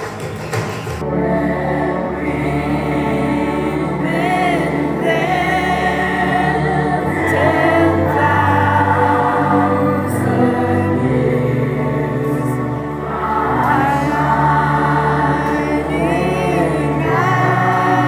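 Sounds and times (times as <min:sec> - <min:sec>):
sustained low accompaniment: 0:00.0 - 0:18.0
choir singing: 0:01.0 - 0:18.0.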